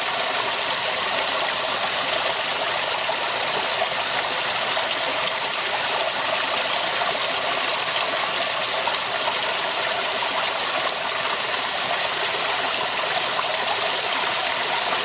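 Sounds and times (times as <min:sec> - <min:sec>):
stream of water running: 0:00.0 - 0:15.0.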